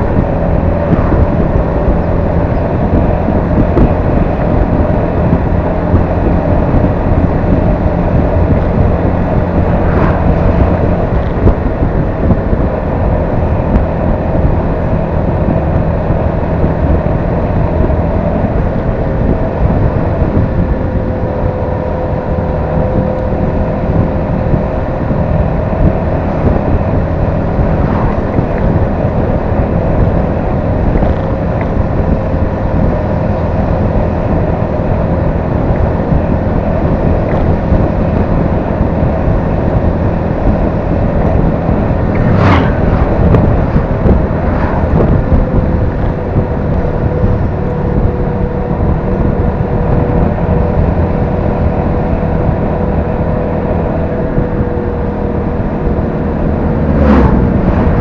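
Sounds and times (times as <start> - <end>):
steady whine: 0.0 - 58.0
wind rush on microphone: 0.0 - 58.0.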